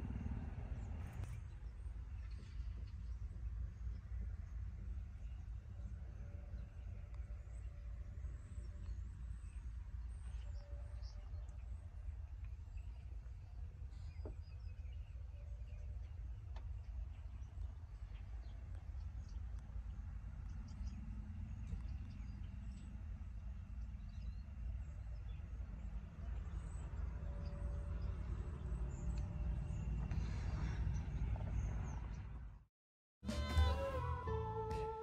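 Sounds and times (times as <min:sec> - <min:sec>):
low uneven rumble: 0:00.0 - 0:32.5.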